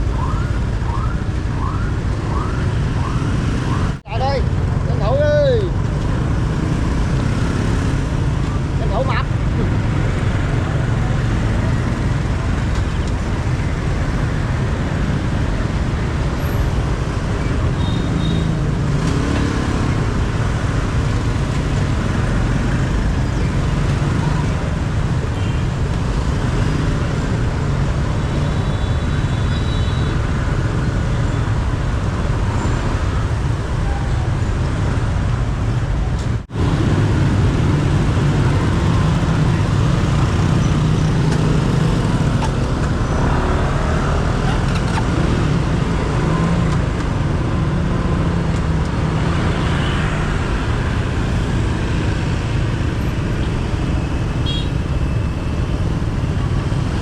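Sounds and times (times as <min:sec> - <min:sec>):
motorbike road noise rumble: 0:00.0 - 0:57.0.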